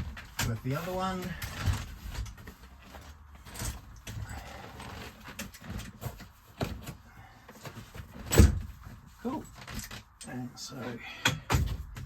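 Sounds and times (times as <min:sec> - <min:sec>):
bunk frame knocks and clunks: 0:00.0 - 0:12.0.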